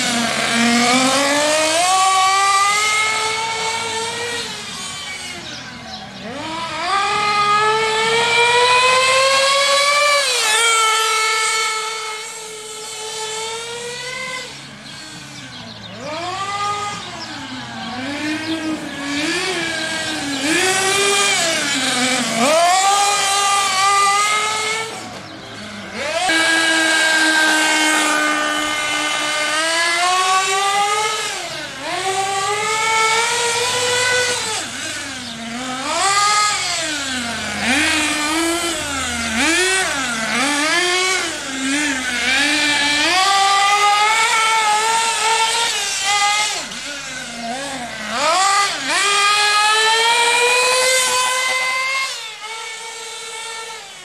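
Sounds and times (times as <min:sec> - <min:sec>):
nitro buggy engine buzzing: 0:00.0 - 0:54.0.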